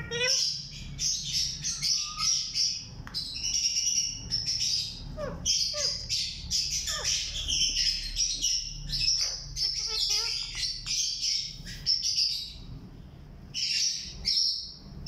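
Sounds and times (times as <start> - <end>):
sharp parakeet calls: 0.0 - 12.5
parakeets chirping and chattering: 0.0 - 15.0.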